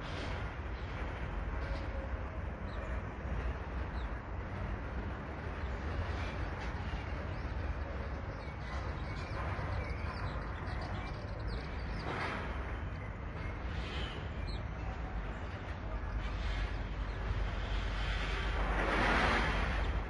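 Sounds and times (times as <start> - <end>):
steady low rumble: 0.0 - 20.0
birds chirping: 0.2 - 18.2.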